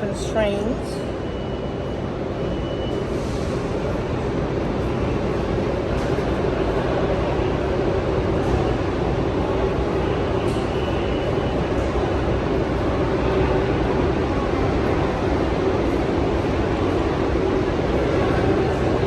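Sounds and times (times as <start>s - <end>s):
subway station rumbling din: 0.0s - 19.0s.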